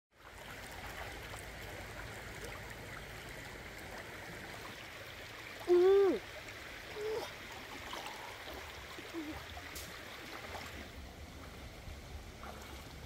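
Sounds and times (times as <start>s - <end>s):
river flowing over stones: 0.2s - 13.0s.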